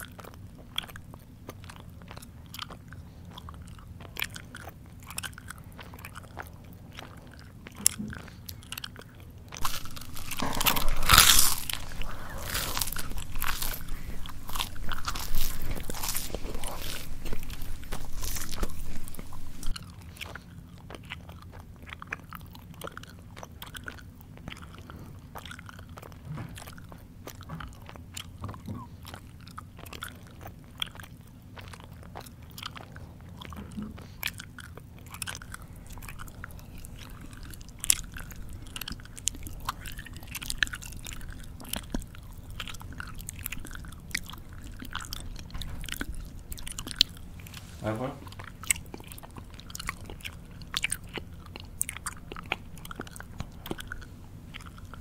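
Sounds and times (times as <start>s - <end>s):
mouth clicks and smacks: 0.0s - 55.0s
person chewing food: 0.0s - 55.0s.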